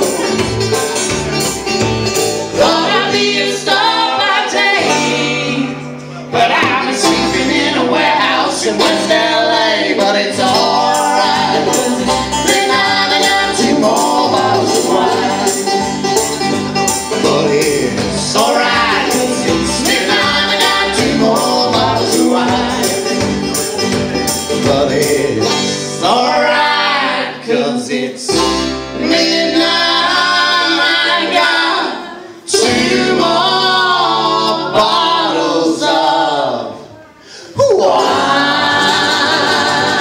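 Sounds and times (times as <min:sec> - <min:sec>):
acoustic guitar strumming: 0:00.0 - 0:27.5, 0:28.3 - 0:35.2, 0:37.8 - 0:40.0
banjo strumming: 0:00.0 - 0:35.8, 0:37.6 - 0:40.0
upright bass: 0:00.0 - 0:36.8, 0:37.6 - 0:40.0
voices singing in harmony: 0:02.4 - 0:16.1, 0:16.9 - 0:23.4, 0:24.7 - 0:40.0.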